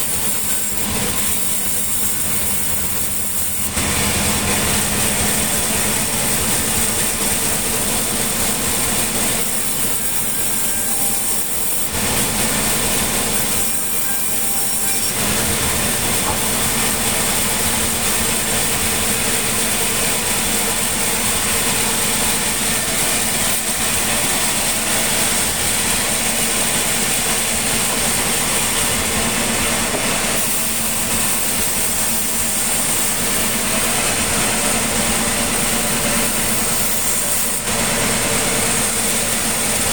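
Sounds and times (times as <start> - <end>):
sawmill engine drone: 0.0 - 39.9.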